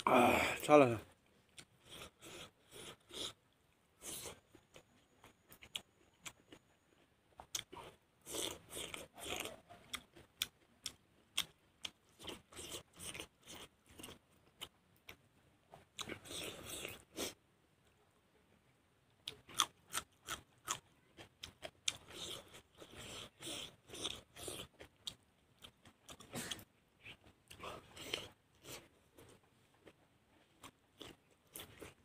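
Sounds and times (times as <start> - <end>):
chewing with crisp crunches: 1.1 - 18.5, 19.1 - 32.0.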